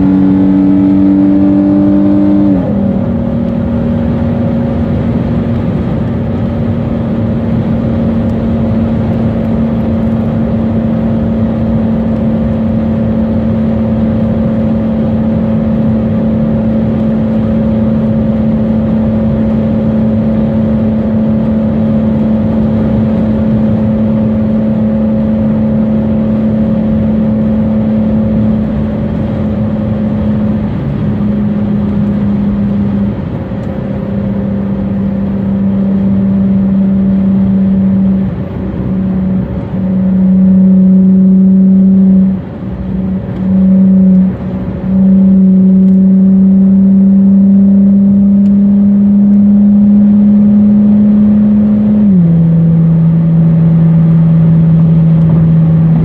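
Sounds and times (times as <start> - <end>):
car engine droning: 0.0 - 56.0
road and wind noise: 0.0 - 56.0.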